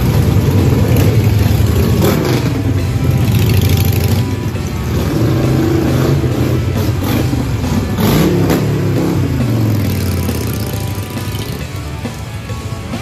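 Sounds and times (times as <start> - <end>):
motorcycles revving and passing: 0.0 - 13.0.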